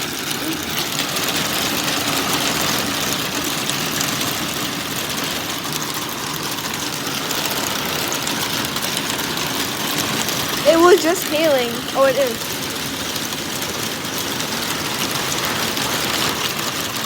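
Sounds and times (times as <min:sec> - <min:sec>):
heavy rain and hail: 0:00.0 - 0:17.0.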